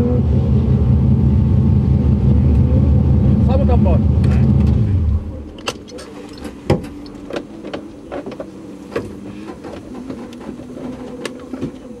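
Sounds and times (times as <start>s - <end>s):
car mechanical hum: 0.0s - 12.0s.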